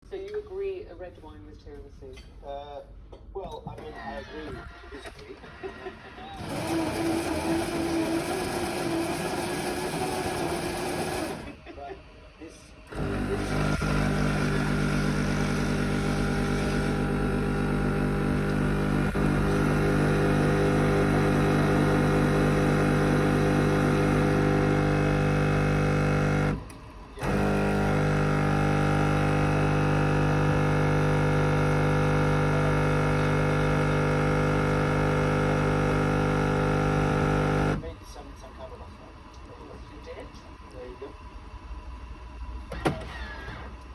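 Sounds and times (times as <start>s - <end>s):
coffee machine motor and pump hum: 3.9s - 12.0s, 12.7s - 43.9s.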